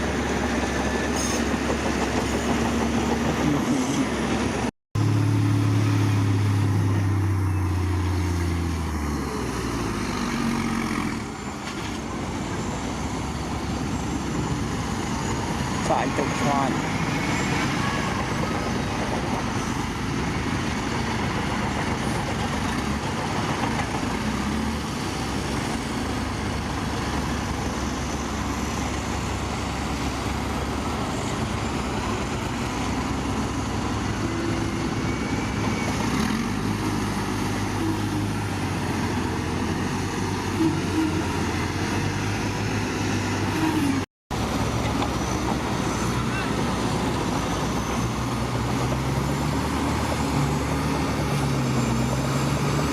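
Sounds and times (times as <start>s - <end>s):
diesel machinery engine drone: 0.0s - 52.9s.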